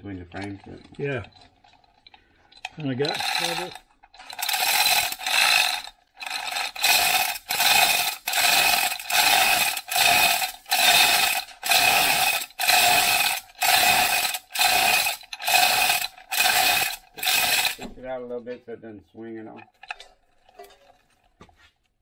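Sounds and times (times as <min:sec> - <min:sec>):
hoist chain clattering: 0:00.0 - 0:18.0, 0:19.5 - 0:21.4
hoist mechanism ratcheting: 0:00.2 - 0:18.0, 0:19.6 - 0:21.0.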